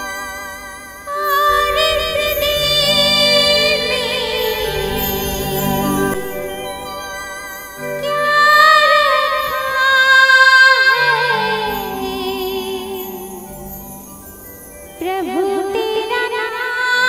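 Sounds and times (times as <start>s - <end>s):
woman singing devotional song: 0.0s - 17.0s.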